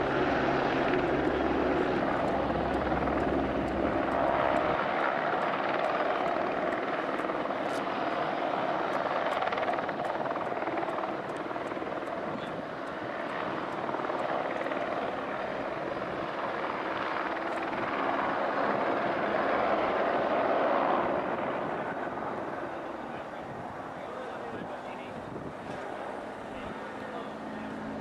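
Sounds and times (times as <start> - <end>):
helicopter flying past: 0.0 - 28.0.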